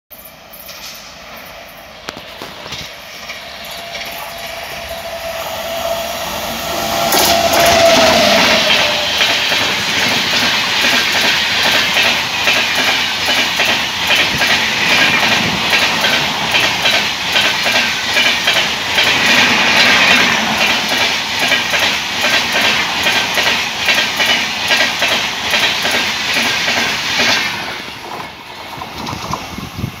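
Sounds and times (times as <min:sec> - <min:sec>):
train passing at speed: 0:00.1 - 0:30.0.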